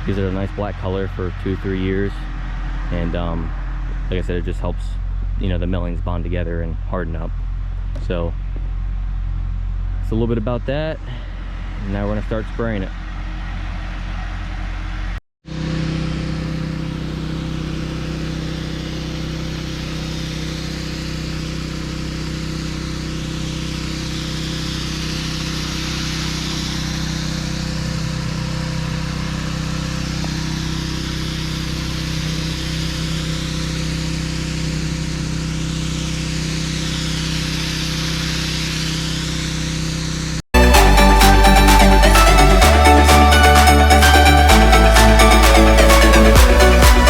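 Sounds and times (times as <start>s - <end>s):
spray rig engine running: 0.0s - 47.0s.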